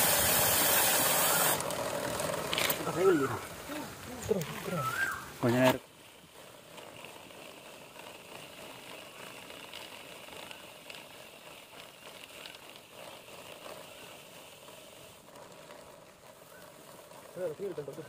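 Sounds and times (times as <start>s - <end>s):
brush scrubbing bike chain: 0.0s - 18.0s.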